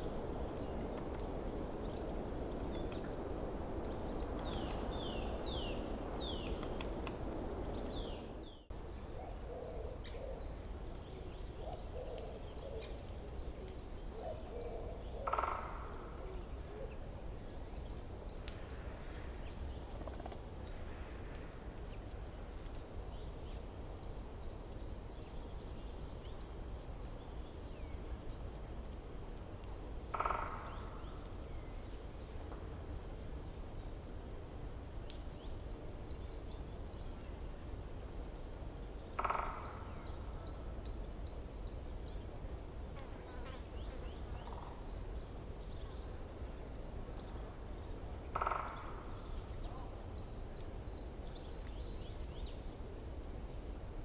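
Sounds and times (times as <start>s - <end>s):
steady low background noise: 0.0s - 54.0s.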